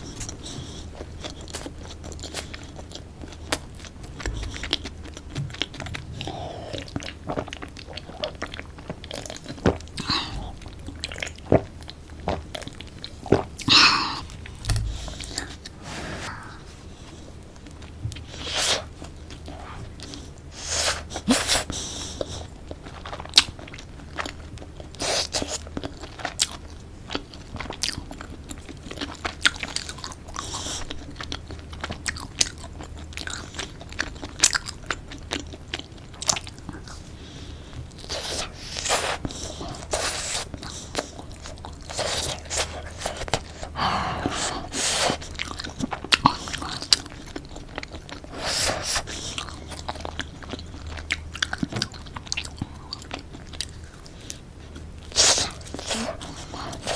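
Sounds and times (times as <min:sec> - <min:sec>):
faint low hum: 0:00.0 - 0:56.9.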